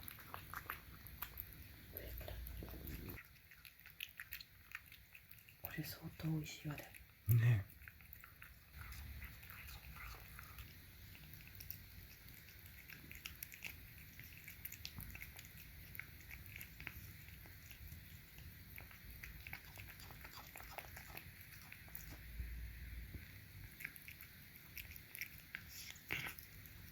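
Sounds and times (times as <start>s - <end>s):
cat chewing food: 0.0s - 26.9s.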